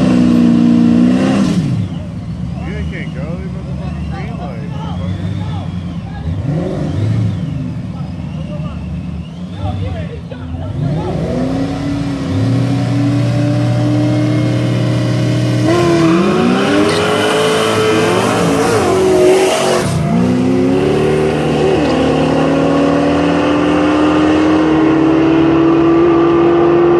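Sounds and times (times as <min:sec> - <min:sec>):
car engines revving and accelerating: 0:00.0 - 0:26.9
cars rushing past: 0:00.0 - 0:26.9.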